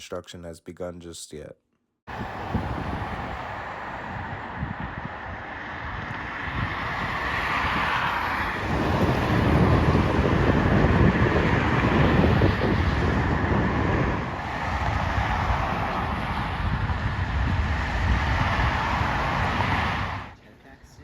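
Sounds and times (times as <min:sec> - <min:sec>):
wind buffeting microphone: 0:02.1 - 0:20.4.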